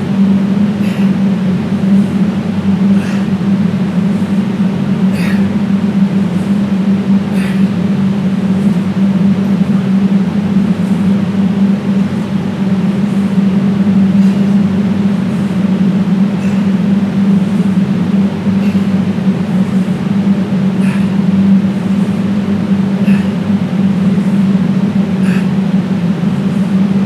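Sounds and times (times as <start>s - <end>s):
loud steady low hum: 0.0s - 27.0s.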